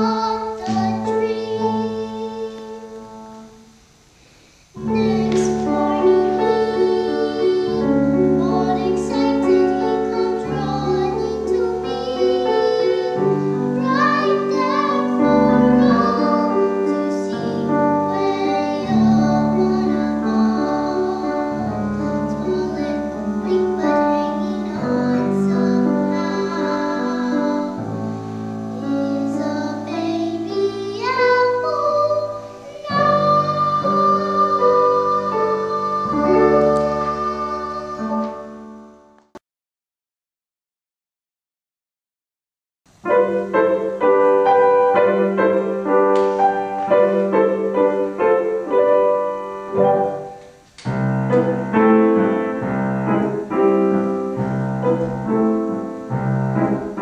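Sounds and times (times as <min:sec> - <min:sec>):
girl singing: 0:00.0 - 0:03.8, 0:04.6 - 0:38.6, 0:43.1 - 0:50.6, 0:51.3 - 0:57.0
grand piano: 0:00.0 - 0:39.4, 0:42.9 - 0:57.0.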